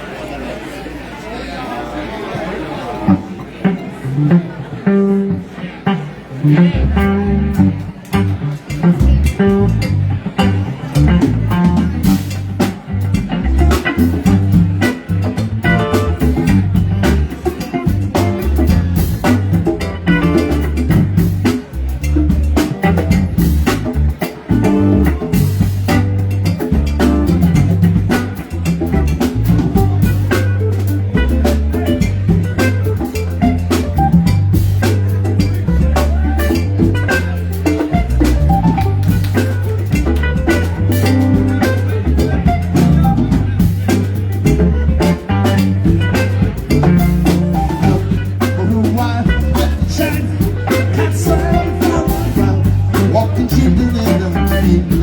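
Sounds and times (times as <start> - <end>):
live rock band playing: 3.6 - 55.0
prominent bass line: 6.4 - 55.0.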